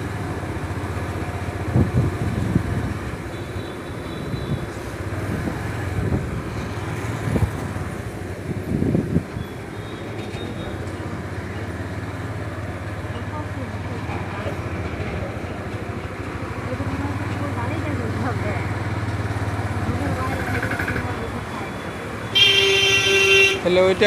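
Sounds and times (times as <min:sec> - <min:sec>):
motorcycle engine hum: 0:00.0 - 0:24.0
road noise: 0:00.0 - 0:24.0
trucks passing: 0:00.0 - 0:24.0.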